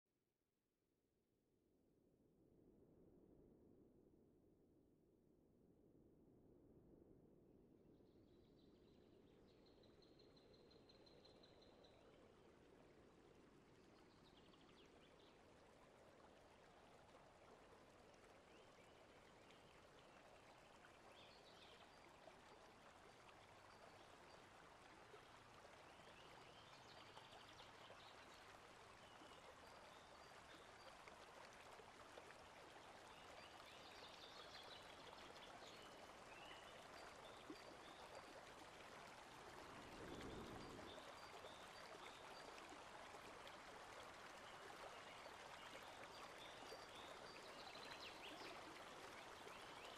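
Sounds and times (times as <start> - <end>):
stream running water: 9.1 - 49.9.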